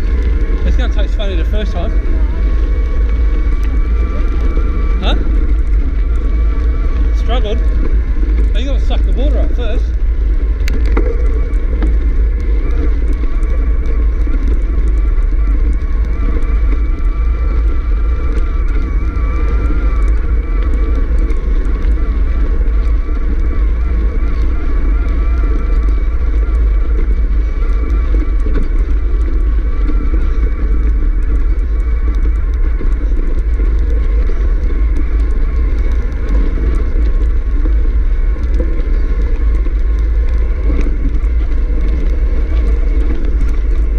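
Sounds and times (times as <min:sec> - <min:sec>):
bike rolling over dirt trail: 0:00.0 - 0:43.9
faint wavering whine: 0:00.0 - 0:43.9
wind buffeting microphone: 0:00.0 - 0:43.9.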